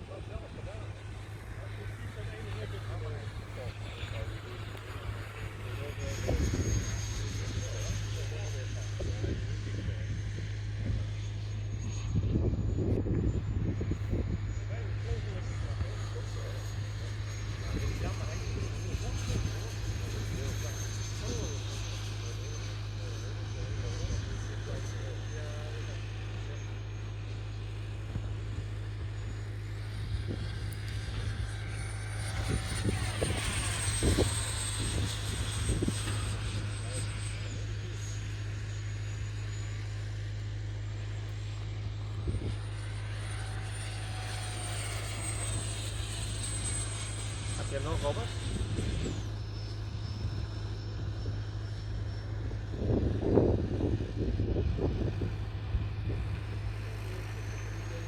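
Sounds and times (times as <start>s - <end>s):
low hum: 0.0s - 58.0s
model jet turbine whining: 0.0s - 58.0s.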